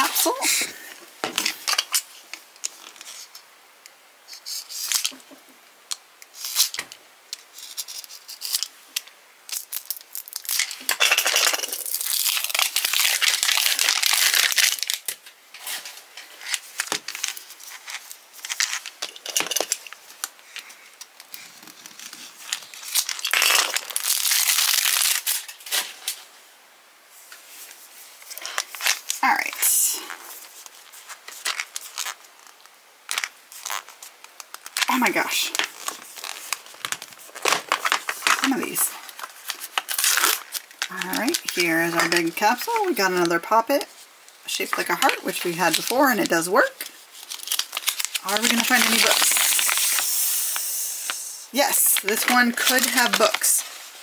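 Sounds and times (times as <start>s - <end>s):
plastic wrapper crinkling and tearing: 1.4s - 3.4s, 6.3s - 26.2s, 27.5s - 54.0s.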